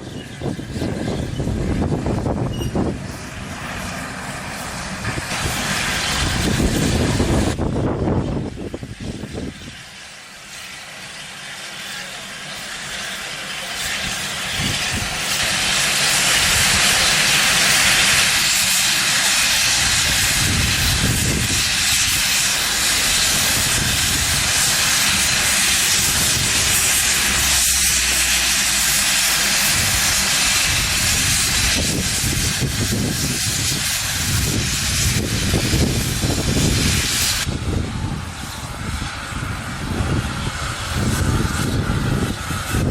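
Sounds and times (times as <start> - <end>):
steam locomotive hissing: 0.0 - 42.9.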